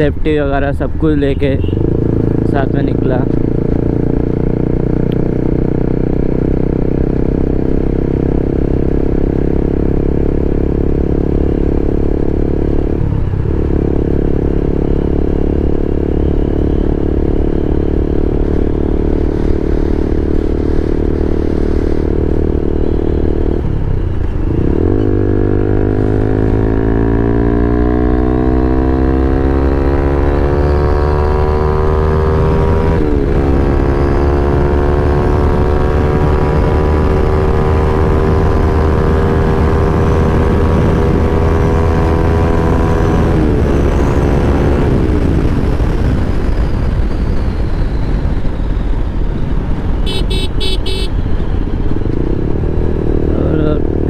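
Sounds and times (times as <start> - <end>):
motorcycle engine running: 1.4 - 29.2, 30.0 - 54.0.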